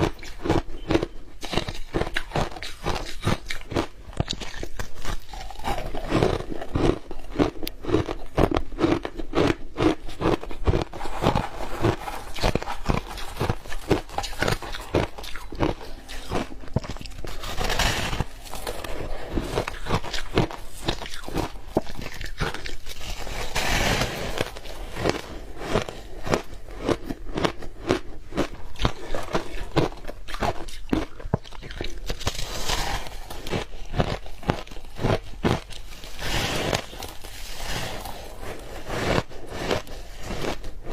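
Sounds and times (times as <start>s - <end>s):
ice chunks crunching: 0.1s - 40.7s.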